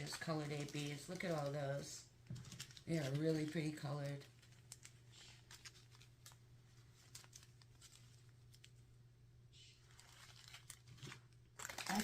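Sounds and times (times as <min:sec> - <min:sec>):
plastic bags crinkling: 0:00.0 - 0:08.9, 0:09.8 - 0:12.0
low steady hum: 0:00.0 - 0:12.0.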